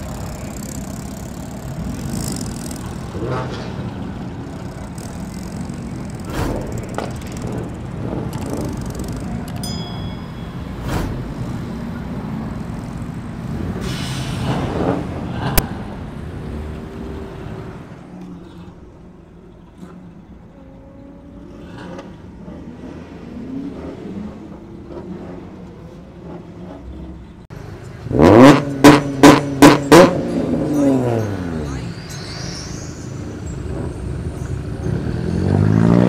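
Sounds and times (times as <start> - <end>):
car engines running: 0.0 - 36.0.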